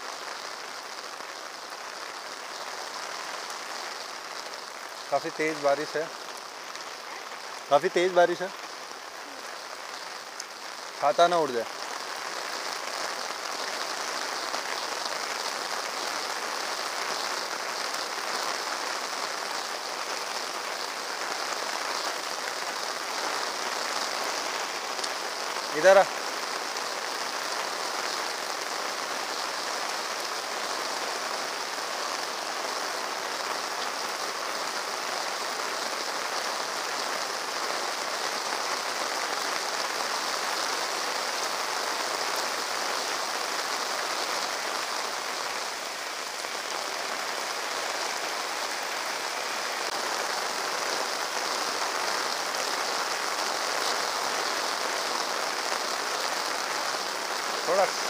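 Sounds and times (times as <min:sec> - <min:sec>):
heavy rain on pavement: 0:00.0 - 0:58.0.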